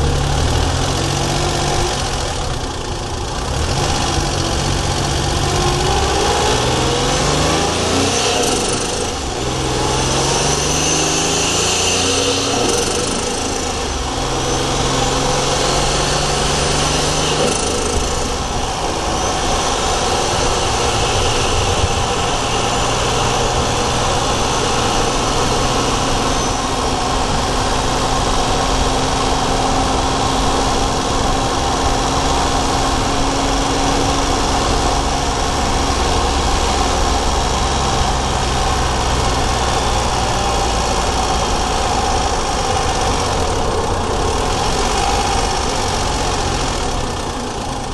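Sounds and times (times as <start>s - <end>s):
turbocharged car engine running: 0.0s - 47.9s.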